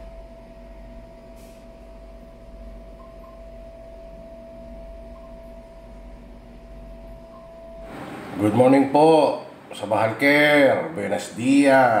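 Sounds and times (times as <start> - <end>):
steady hum with mid-pitched tone: 0.0 - 12.0.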